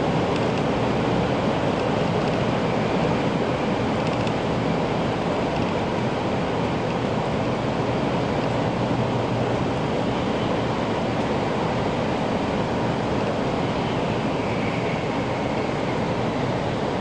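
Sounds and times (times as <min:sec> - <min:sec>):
high-speed train running noise: 0:00.0 - 0:17.0.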